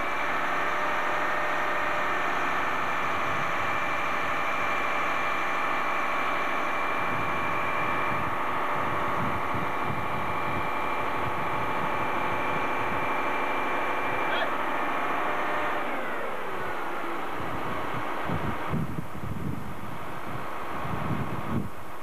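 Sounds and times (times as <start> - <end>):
fire engine running: 0.0 - 22.0
steady whine: 0.0 - 22.0.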